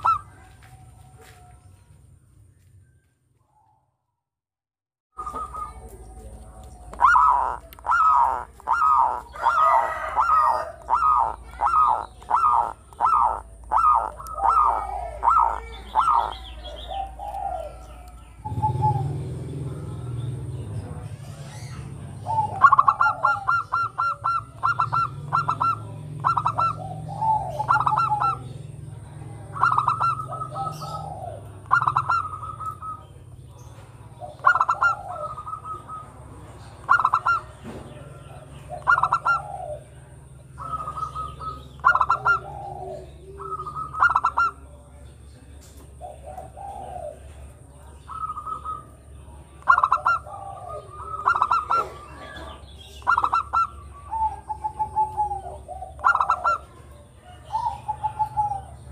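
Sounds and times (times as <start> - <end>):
dove cooing: 0.0 - 1.7, 5.2 - 58.9.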